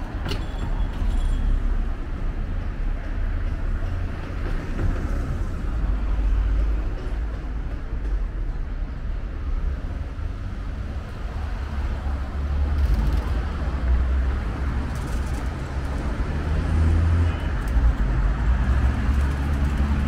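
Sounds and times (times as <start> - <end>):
cars passing and idling: 0.0 - 20.0.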